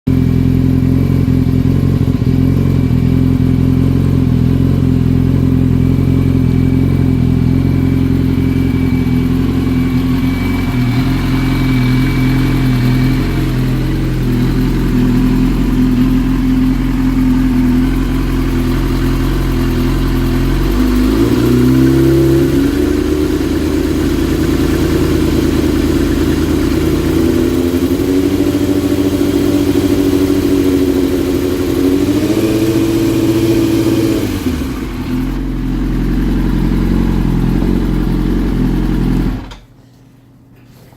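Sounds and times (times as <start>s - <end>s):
motorcycle engine idling unsteadily: 0.1s - 40.5s.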